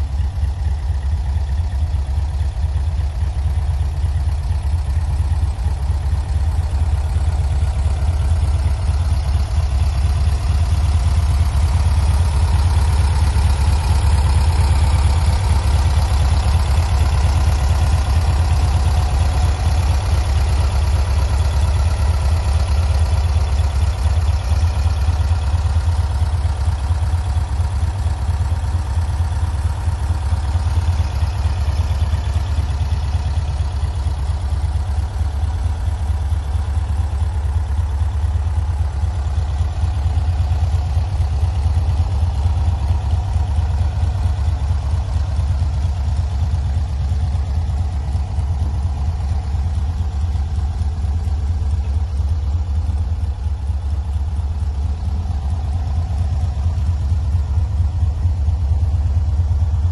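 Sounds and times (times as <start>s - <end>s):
air-cooled engine idling: 0.0s - 59.9s.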